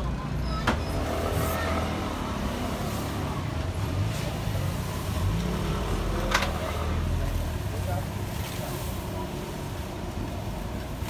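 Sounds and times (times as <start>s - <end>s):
busy street rumble: 0.0s - 11.0s.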